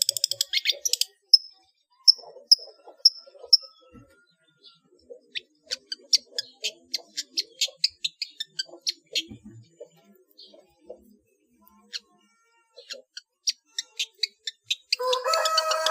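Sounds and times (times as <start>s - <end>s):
bird harsh clicking chatter: 0.0s - 3.8s, 5.2s - 9.3s, 9.9s - 12.2s, 12.8s - 15.9s.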